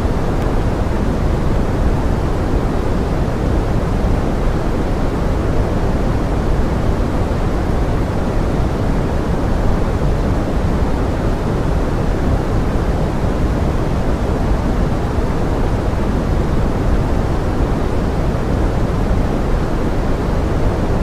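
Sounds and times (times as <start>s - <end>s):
pink noise with rain hiss: 0.0s - 21.0s.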